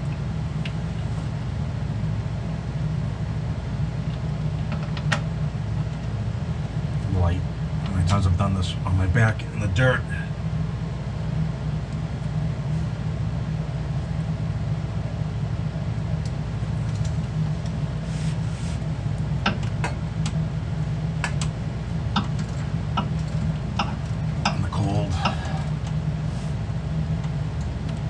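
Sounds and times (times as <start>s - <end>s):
garage heater droning: 0.0s - 28.0s.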